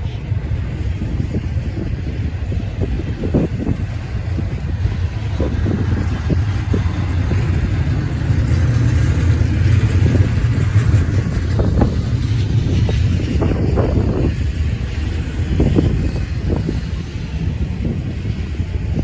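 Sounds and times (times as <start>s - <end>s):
freight train wheels rumbling: 0.0s - 19.0s
train knocks and clatters: 0.0s - 19.0s
wind buffeting microphone: 0.0s - 19.0s.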